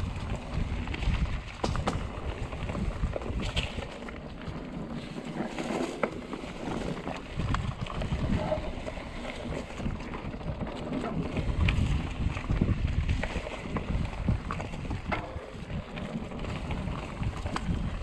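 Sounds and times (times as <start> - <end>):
bike clicks and rattles: 0.0 - 18.0
wind buffeting microphone: 0.0 - 18.0.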